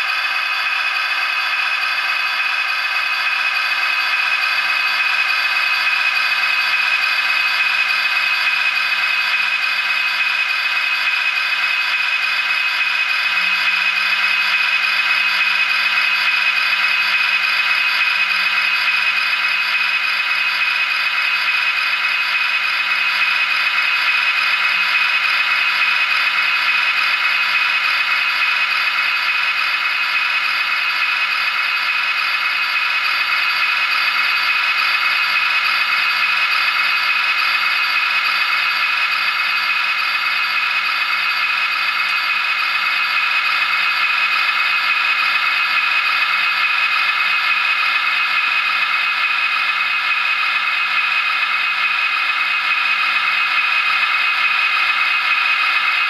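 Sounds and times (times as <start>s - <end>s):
diesel engine from small speaker: 0.0s - 56.0s.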